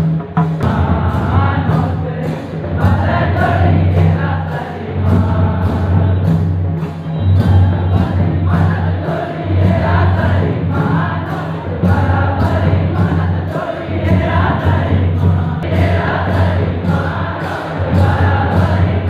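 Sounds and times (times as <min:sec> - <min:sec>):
drumming: 0:00.0 - 0:19.0
group singing: 0:00.0 - 0:19.0
sharp percussion beat: 0:00.0 - 0:19.0.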